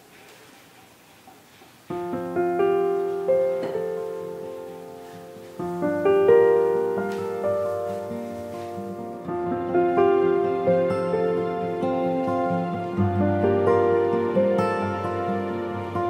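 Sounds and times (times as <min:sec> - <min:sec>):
slow piano chords: 0:01.9 - 0:16.0.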